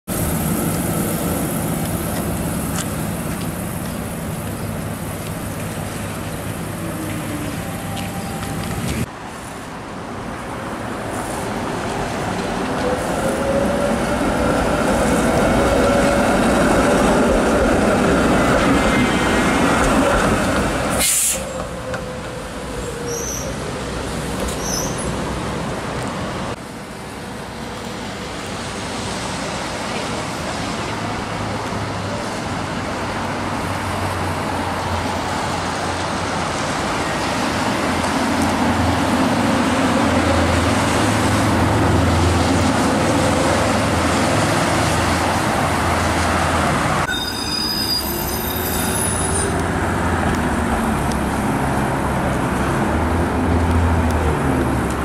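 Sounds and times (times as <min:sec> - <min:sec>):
traffic on wet road: 0:00.1 - 0:47.1, 0:48.1 - 0:55.0
streetcar running on wet track: 0:00.1 - 0:55.0.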